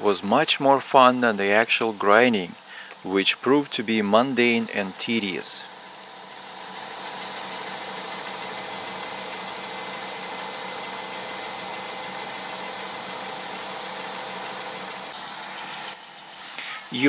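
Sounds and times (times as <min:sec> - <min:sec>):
router motor running: 0:00.0 - 0:17.0.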